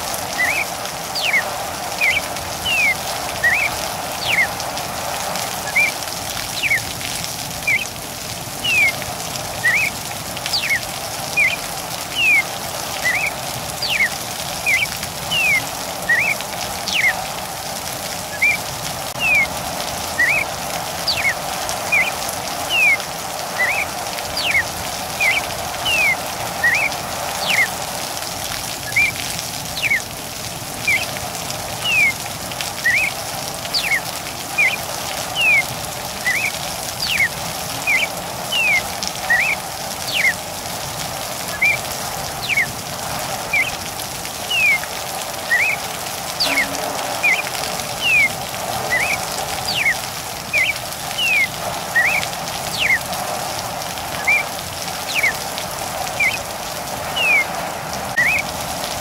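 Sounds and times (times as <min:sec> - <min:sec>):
bird whistling calls: 0:00.0 - 0:04.8, 0:05.4 - 0:07.0, 0:07.6 - 0:08.0, 0:08.6 - 0:17.3, 0:18.2 - 0:27.8, 0:28.8 - 0:30.1, 0:30.8 - 0:40.4, 0:41.4 - 0:42.8, 0:43.4 - 0:53.1, 0:54.1 - 0:55.4, 0:56.1 - 0:56.5, 0:57.1 - 0:57.5, 0:58.1 - 0:58.5
steady rain hiss: 0:00.0 - 0:59.0.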